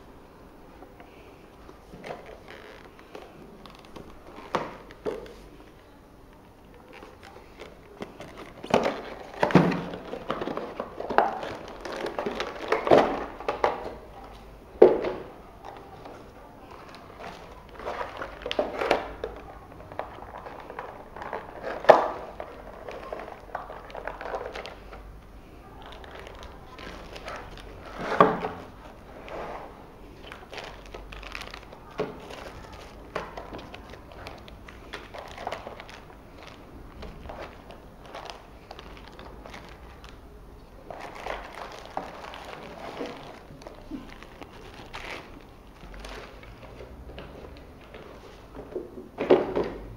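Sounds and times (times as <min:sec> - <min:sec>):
packaging rustling and crinkling: 0:01.6 - 0:05.9, 0:06.6 - 0:49.4.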